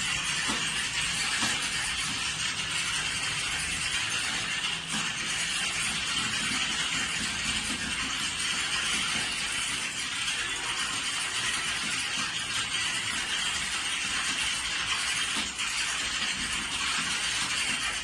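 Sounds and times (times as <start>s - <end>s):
keyboards typing clatter: 0.0s - 18.0s.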